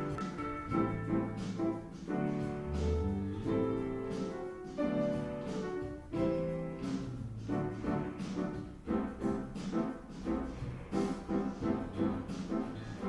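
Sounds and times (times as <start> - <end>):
live instrumental jazz: 0.0 - 13.0.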